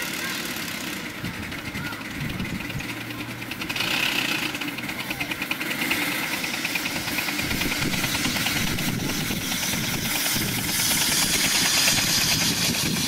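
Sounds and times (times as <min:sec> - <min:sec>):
steam locomotive chuffing: 0:00.0 - 0:13.0
train rolling rumble: 0:00.0 - 0:13.0.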